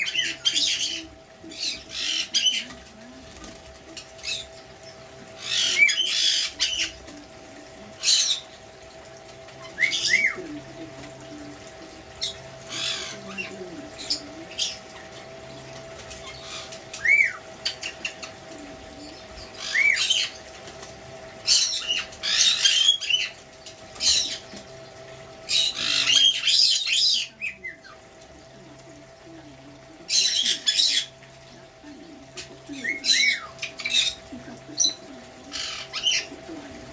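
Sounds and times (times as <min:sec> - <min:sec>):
parrots chirping: 0:00.0 - 0:03.0, 0:04.0 - 0:07.1, 0:07.7 - 0:20.6, 0:21.2 - 0:28.4, 0:29.1 - 0:36.9
fountain trickling: 0:00.0 - 0:36.9
bird splashing and wing-flapping: 0:01.7 - 0:26.5, 0:27.1 - 0:36.9.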